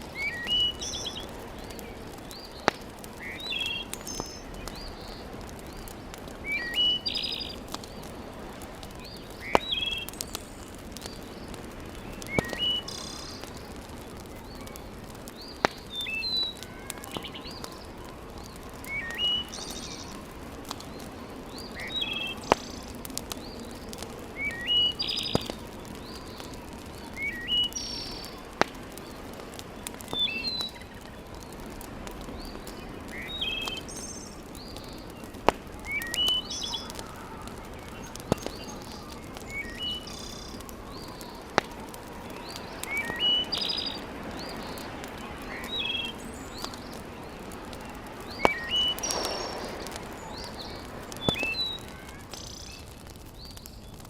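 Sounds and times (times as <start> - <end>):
steady low hiss: 0.0 - 51.6
wood fire popping: 0.0 - 54.0
songbird chirping: 0.1 - 8.2, 8.9 - 31.6, 32.2 - 41.7, 42.3 - 52.9.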